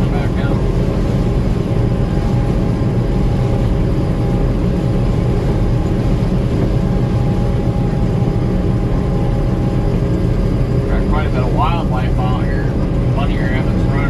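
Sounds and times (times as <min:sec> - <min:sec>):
combine harvester machinery drone: 0:00.0 - 0:14.0
faint machinery whines: 0:00.0 - 0:14.0.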